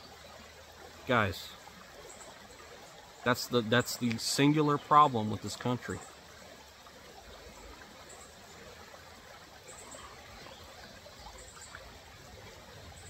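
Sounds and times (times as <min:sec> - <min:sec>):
creek flowing over rocks: 0:00.0 - 0:13.0.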